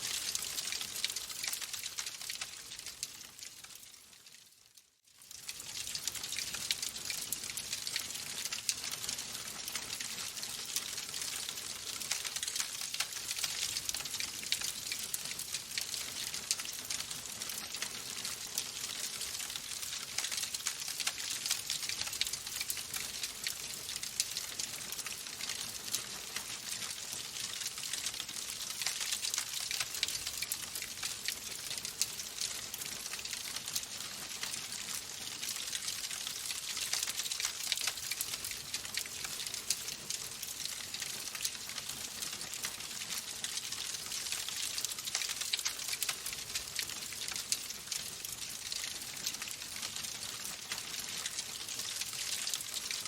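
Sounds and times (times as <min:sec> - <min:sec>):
wood fire crackling: 0:00.0 - 0:04.4, 0:05.1 - 0:53.0.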